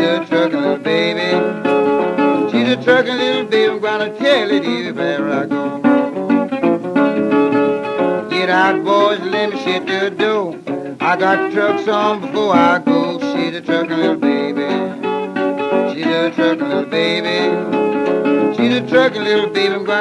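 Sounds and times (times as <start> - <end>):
blues guitar playing: 0.0 - 20.0.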